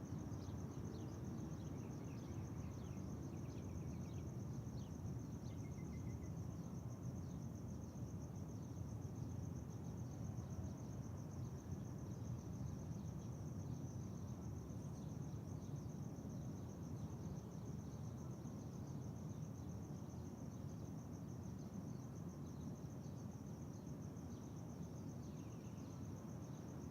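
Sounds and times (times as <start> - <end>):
cricket trill: 0.0 - 26.9.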